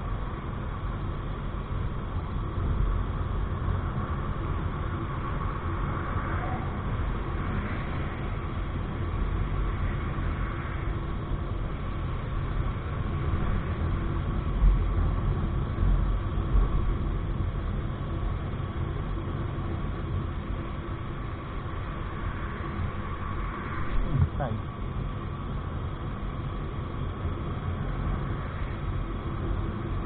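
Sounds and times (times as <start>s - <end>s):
low wind rumble on microphone: 0.0s - 30.0s.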